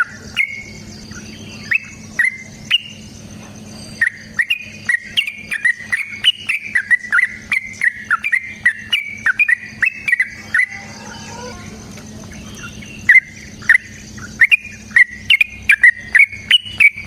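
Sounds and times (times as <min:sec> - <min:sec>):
bulbul chirps and song: 0:00.0 - 0:17.0
faint low hum: 0:00.0 - 0:17.0.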